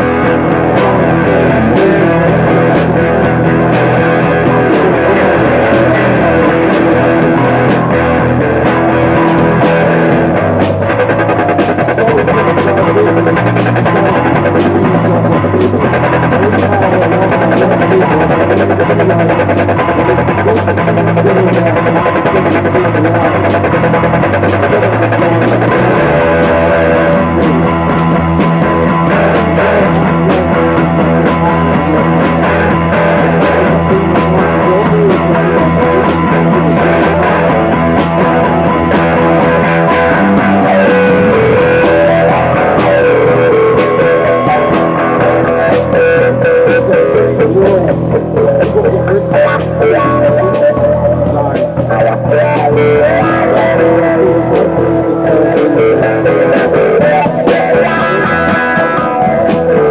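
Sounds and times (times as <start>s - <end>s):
bass line: 0.0s - 59.9s
drum kit steady beat: 0.0s - 59.9s
electric guitar: 0.0s - 59.9s.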